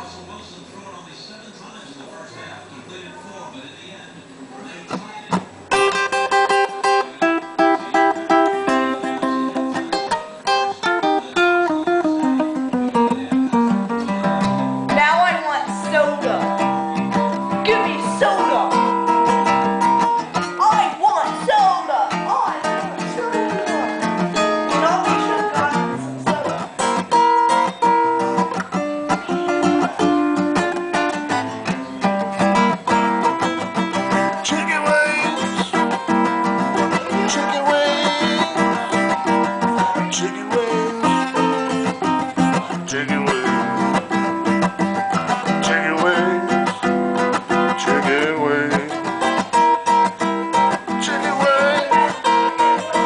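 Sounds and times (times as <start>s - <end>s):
plucked guitar lines: 4.9s - 53.0s
strummed acoustic guitar: 4.9s - 53.0s.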